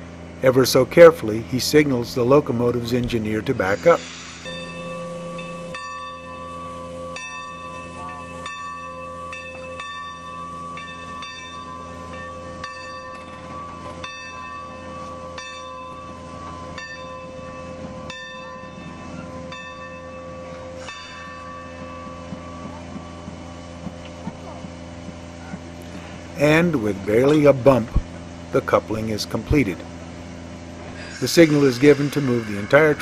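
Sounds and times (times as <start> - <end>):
locomotive bell ringing: 0.0 - 33.0.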